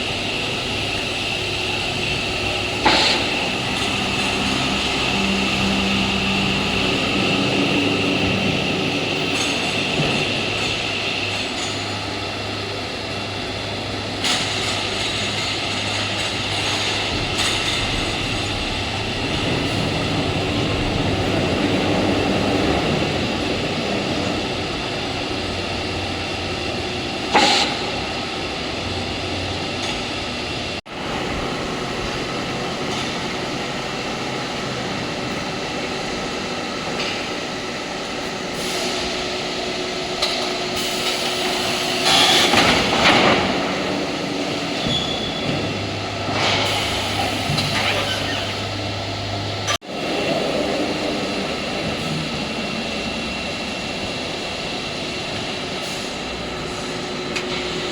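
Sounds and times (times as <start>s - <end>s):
hydraulic press machine humming: 0.0s - 57.9s.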